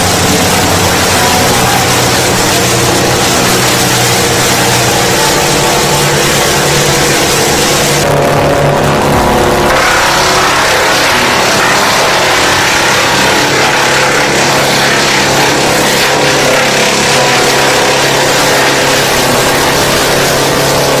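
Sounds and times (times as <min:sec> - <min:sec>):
wood chipper engine drone: 0:00.0 - 0:21.0.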